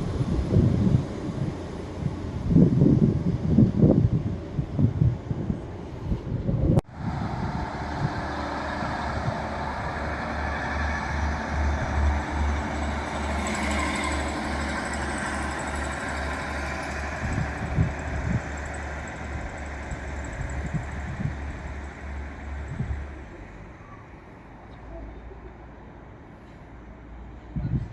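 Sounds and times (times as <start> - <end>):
train engine throbbing: 0.0 - 23.8
wind buffeting microphone: 0.0 - 23.8, 27.3 - 27.9.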